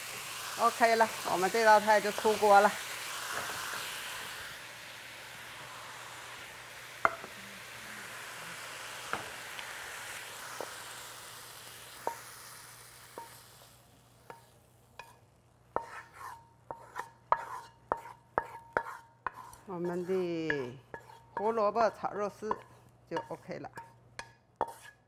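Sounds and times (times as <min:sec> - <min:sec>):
food sizzling in a wok: 0:00.0 - 0:24.0, 0:24.6 - 0:25.0.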